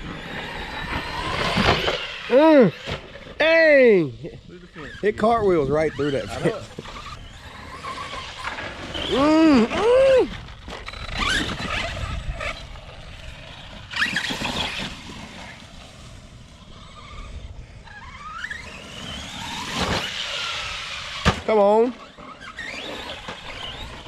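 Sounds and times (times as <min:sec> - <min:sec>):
electric motor revving: 0:00.0 - 0:24.0.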